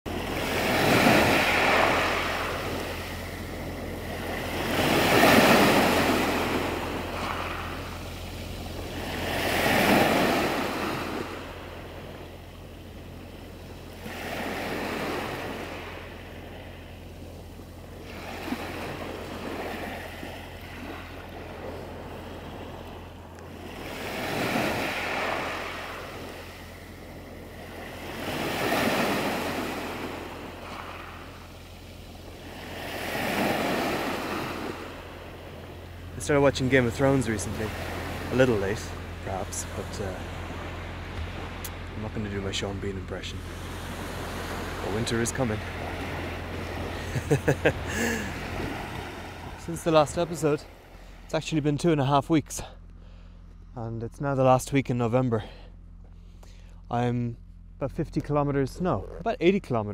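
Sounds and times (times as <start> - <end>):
sea waves washing onto shore: 0.1 - 51.6.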